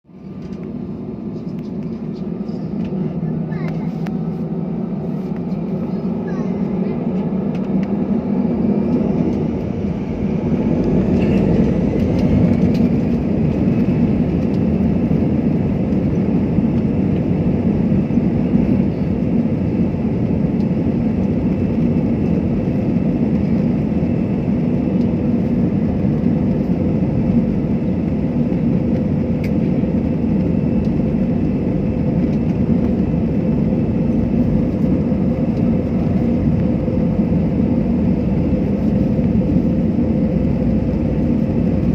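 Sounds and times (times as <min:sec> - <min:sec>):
jet engines roaring: 0:00.1 - 0:41.9
rising engine whine: 0:00.1 - 0:41.9.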